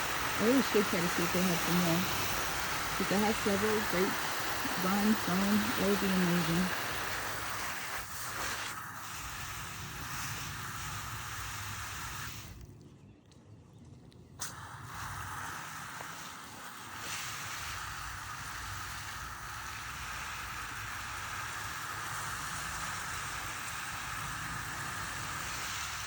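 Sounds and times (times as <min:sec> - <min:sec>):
garden hose spraying water: 0:00.0 - 0:12.7, 0:14.4 - 0:26.0.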